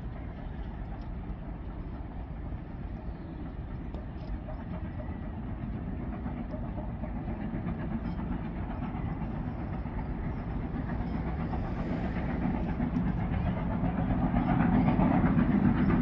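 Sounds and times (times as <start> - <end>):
steam train rumbling on rails: 0.0 - 16.0.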